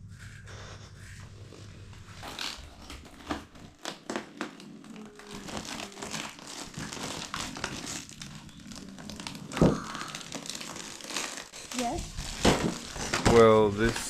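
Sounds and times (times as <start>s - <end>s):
packaging crinkling and rustling: 2.2s - 14.0s.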